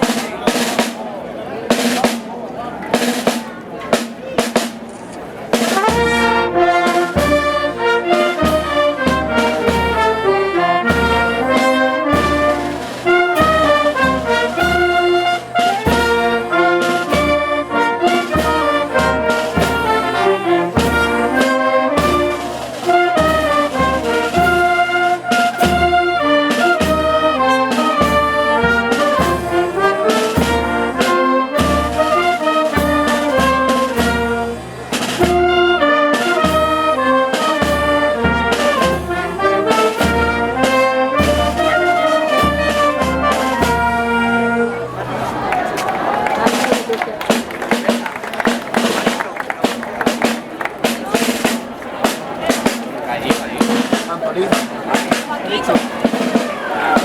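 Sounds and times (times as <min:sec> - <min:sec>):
brass band playing: 0:00.0 - 0:01.0, 0:01.7 - 0:02.3, 0:02.9 - 0:57.0
steady drum beat: 0:00.0 - 0:44.4, 0:45.4 - 0:57.0.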